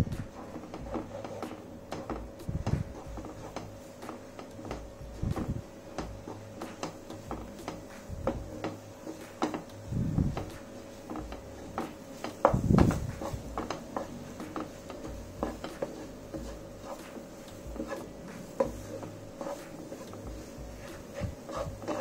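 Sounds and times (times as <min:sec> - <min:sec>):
wooden spatula scraping a pan: 0:00.0 - 0:22.0.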